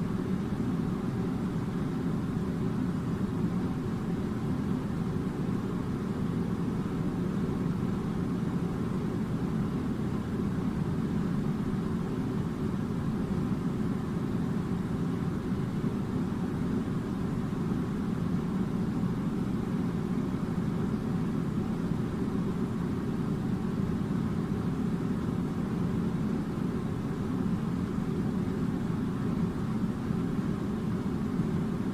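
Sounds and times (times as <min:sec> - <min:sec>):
air conditioner running: 0:00.0 - 0:31.9.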